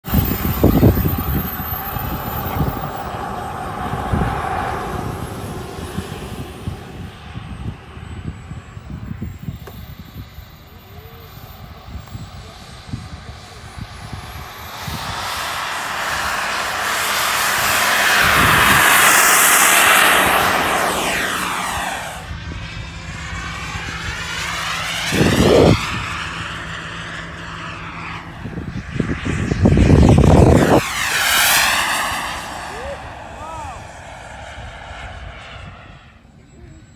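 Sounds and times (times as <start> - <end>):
low rushes of noise: 0.0 - 36.9
model jet turbine whine: 0.0 - 36.9.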